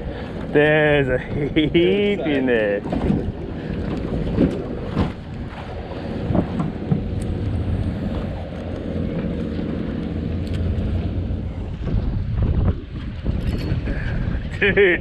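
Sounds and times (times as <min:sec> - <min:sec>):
boat low rumble: 0:00.0 - 0:15.0
water noise: 0:00.0 - 0:15.0
wind buffeting microphone: 0:00.0 - 0:15.0.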